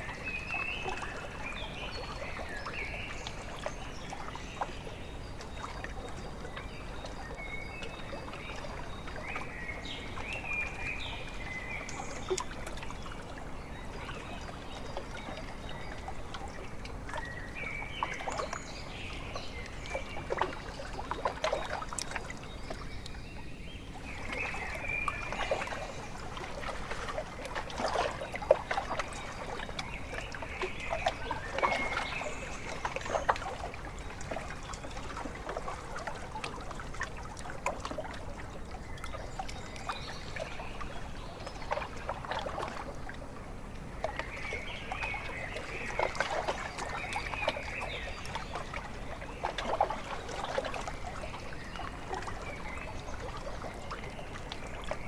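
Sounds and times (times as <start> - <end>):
lake waves lapping against shore: 0.0 - 55.0.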